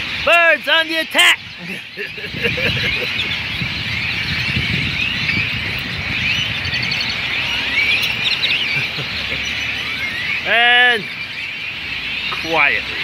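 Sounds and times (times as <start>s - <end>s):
flock of birds chattering: 0.0s - 13.0s.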